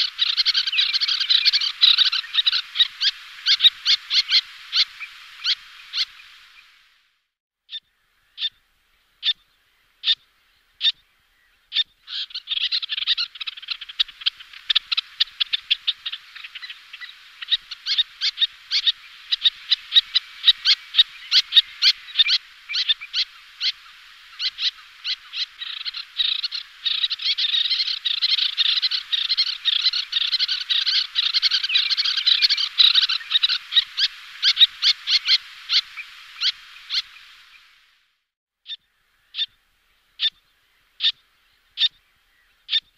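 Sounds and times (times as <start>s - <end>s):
terns chattering calls: 0.0s - 6.8s, 9.2s - 37.8s.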